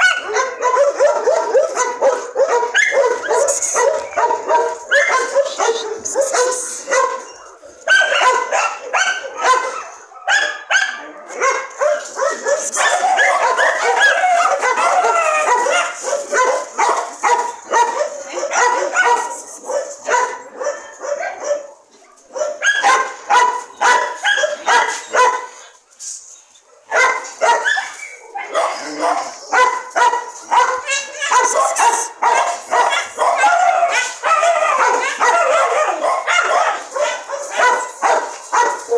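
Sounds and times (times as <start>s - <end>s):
dogs barking: 0.0s - 25.8s, 26.7s - 38.9s.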